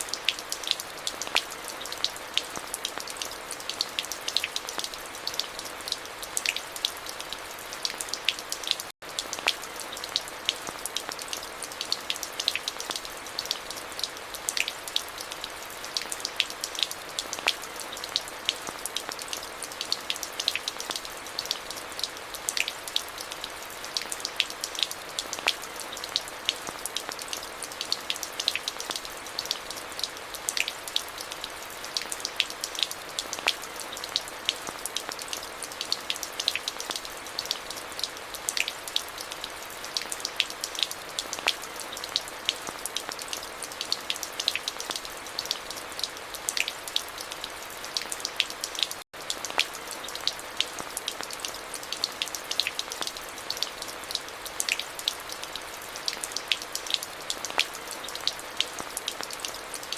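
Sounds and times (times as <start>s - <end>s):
steady rain: 0.0s - 59.9s
raindrops ticking: 0.1s - 59.9s.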